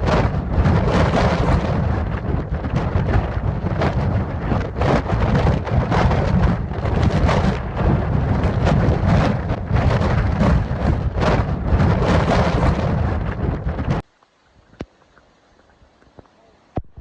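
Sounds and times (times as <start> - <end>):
heavy rain: 0.0 - 17.0
wind buffeting microphone: 0.0 - 17.0.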